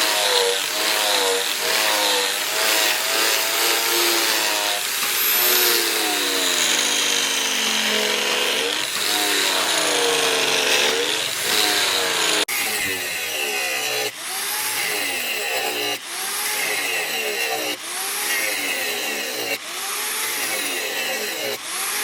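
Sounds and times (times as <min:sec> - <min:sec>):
electric grinder on steel: 0:00.0 - 0:22.0.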